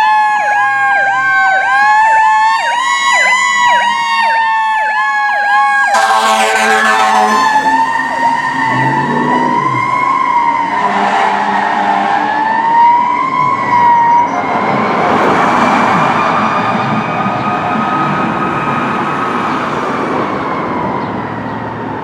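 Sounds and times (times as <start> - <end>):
fire engine siren wailing: 0.0 - 22.0.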